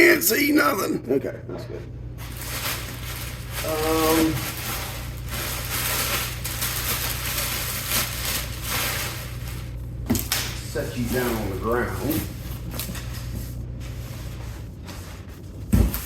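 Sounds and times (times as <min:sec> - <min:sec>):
low electrical hum: 0:00.0 - 0:16.0
rustling and scraping of objects: 0:02.2 - 0:16.0.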